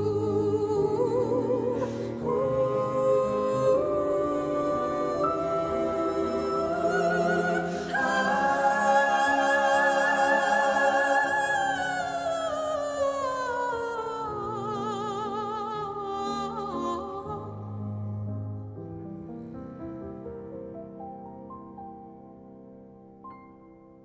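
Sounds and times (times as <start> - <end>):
soft musical accompaniment: 0.0 - 24.0.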